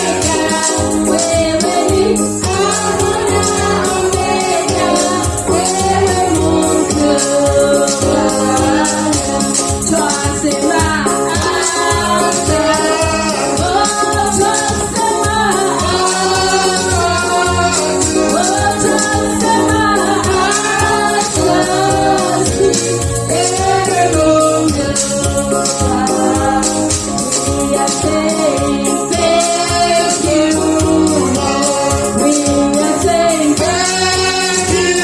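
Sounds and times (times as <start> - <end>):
group singing gospel song: 0.0 - 35.0
steady beat: 0.0 - 35.0.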